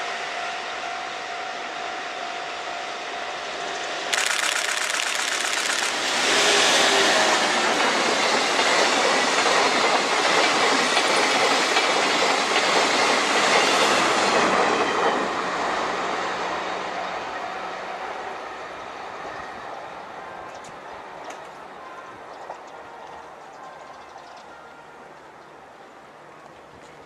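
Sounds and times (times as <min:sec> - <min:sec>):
train passing with clickety-clack: 0:00.0 - 0:27.0.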